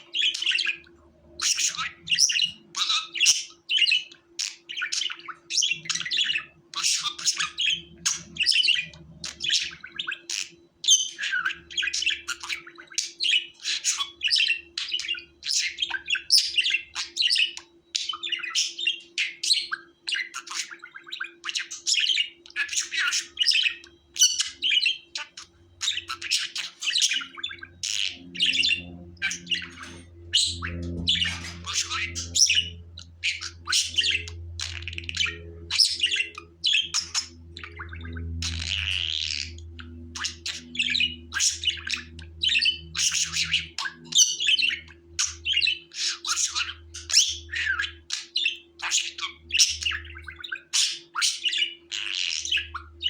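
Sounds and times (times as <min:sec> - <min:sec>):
budgerigar chattering and warbling: 0:00.0 - 0:53.0
faint low hum: 0:00.0 - 0:53.0.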